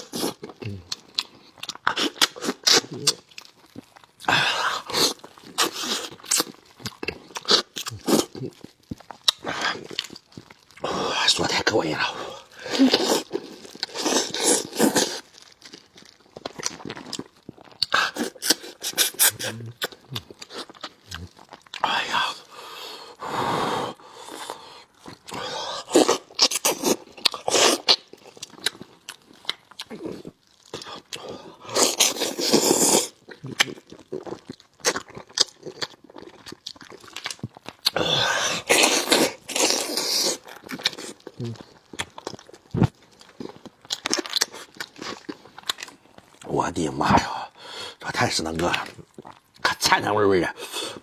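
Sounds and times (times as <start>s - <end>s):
wet mouth eating sounds: 0.0s - 51.0s.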